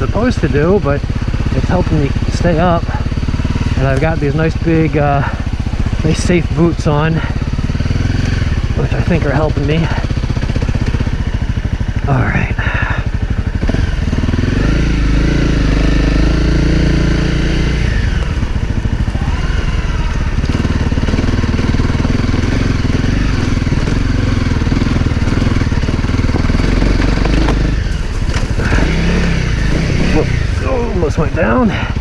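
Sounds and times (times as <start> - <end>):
dirt bike engine running: 0.0 - 32.0.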